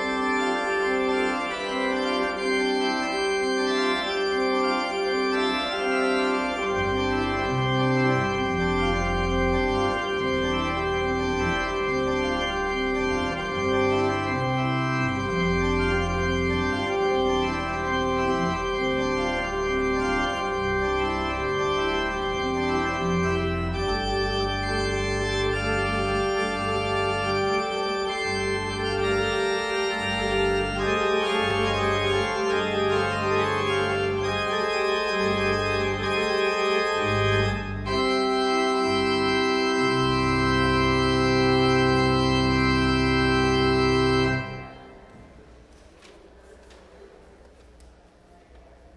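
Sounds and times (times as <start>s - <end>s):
organ playing slow chords: 0.0s - 45.6s.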